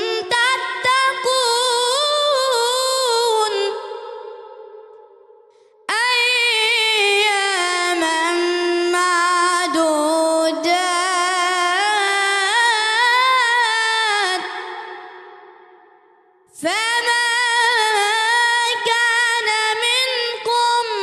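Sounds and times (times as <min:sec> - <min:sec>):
boy chanting melodically: 0:00.0 - 0:04.8, 0:05.9 - 0:15.5, 0:16.5 - 0:21.0.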